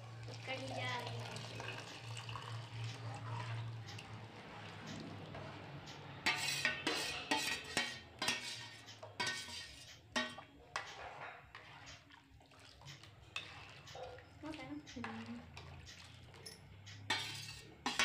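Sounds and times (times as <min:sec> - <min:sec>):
spoon scraping metal pan: 0:02.8 - 0:18.0.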